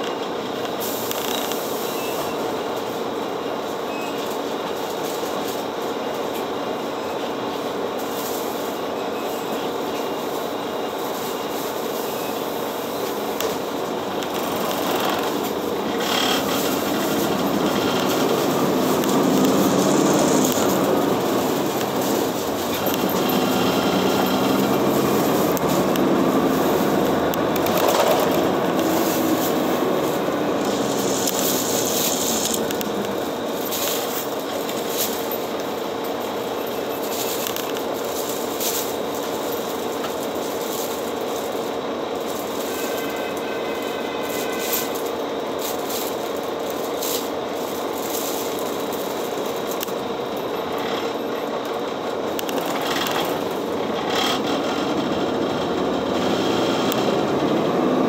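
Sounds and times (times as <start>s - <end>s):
bus engine humming: 0.0s - 58.0s.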